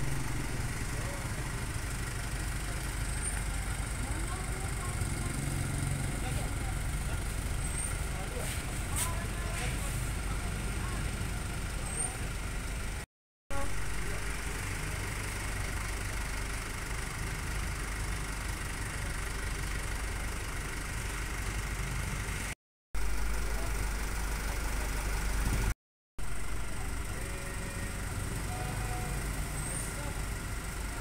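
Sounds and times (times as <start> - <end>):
motorcycle and car engines idling: 0.0 - 31.0.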